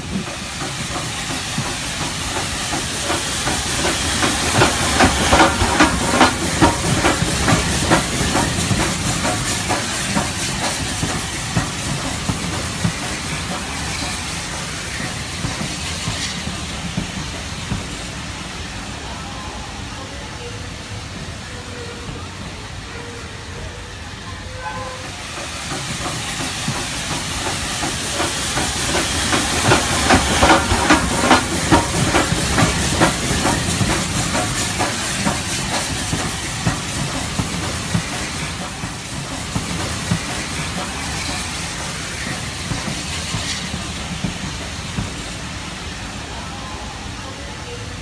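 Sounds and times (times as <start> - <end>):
model steam train chuffing: 0.0 - 48.0.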